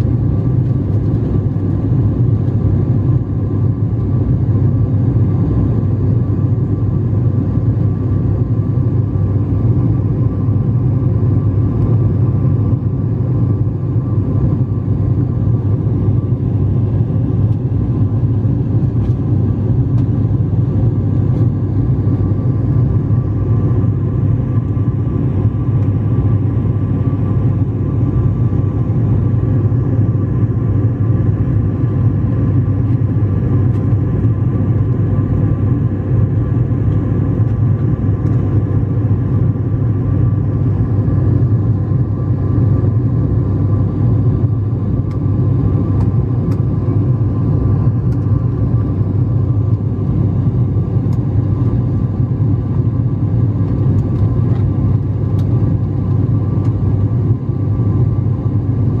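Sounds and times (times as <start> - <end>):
airliner engines rumbling: 0.0 - 59.0
faint steady hum: 0.0 - 59.0.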